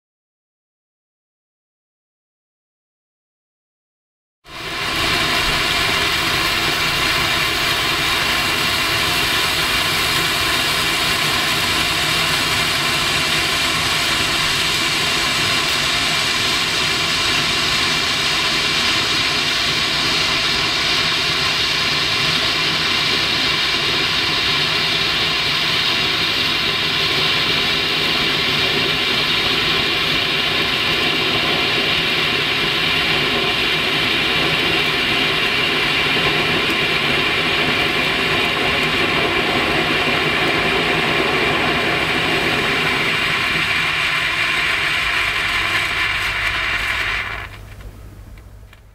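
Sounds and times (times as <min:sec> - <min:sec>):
hand flare burning with hiss: 0:04.5 - 0:48.0.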